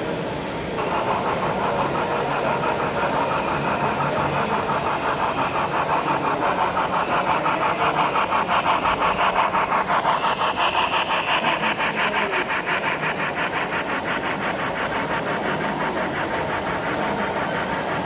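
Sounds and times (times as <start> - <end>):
model steam locomotive chuffing: 0.0 - 18.0
model train rumbling on track: 0.0 - 18.0.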